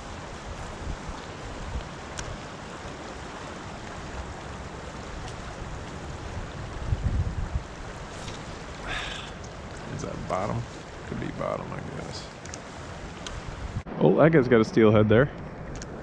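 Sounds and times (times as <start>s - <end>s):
river current rushing: 0.0s - 13.9s
wind buffeting microphone: 0.0s - 16.0s.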